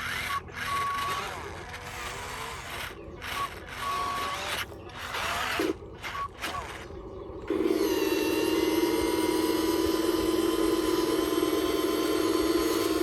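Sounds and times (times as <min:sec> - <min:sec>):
small gear motors whirring and clicking: 0:00.0 - 0:13.0
steady motor hum: 0:00.0 - 0:13.0.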